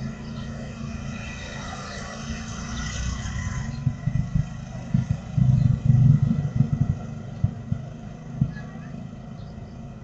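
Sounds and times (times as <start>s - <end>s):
small motorcycles passing: 0.0s - 10.0s.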